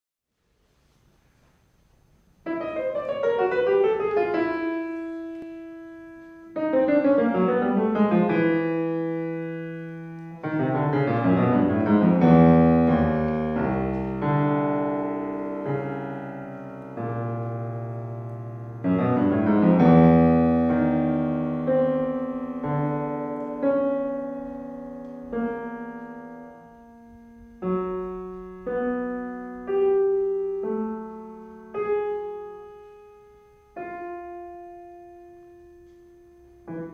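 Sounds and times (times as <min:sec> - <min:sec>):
grand piano playing: 0:02.4 - 0:36.9.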